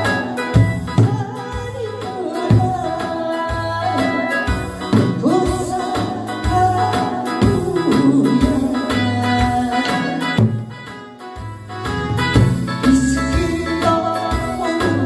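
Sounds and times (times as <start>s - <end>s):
trot song with steady beat: 0.0s - 15.0s.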